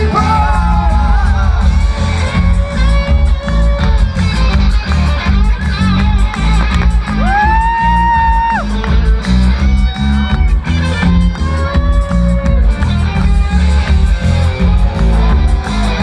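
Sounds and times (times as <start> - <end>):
drum and bass beat: 0.0 - 16.0
electric guitar lead: 0.0 - 16.0.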